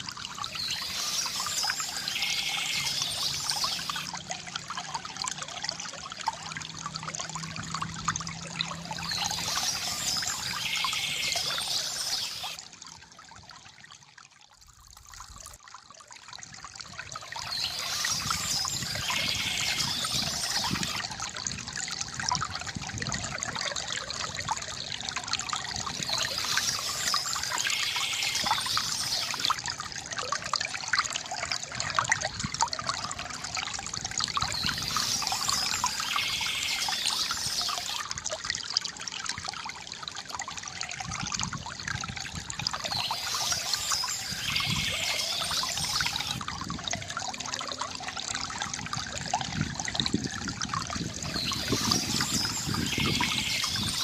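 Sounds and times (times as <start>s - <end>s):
water trickling from fountain: 0.0s - 54.0s.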